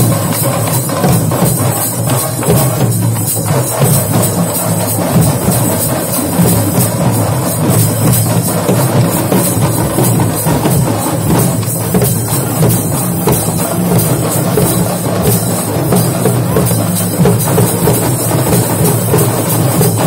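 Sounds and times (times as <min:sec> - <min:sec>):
frame drums beaten fast: 0:00.0 - 0:20.0
hand cymbals clashing: 0:00.0 - 0:20.0.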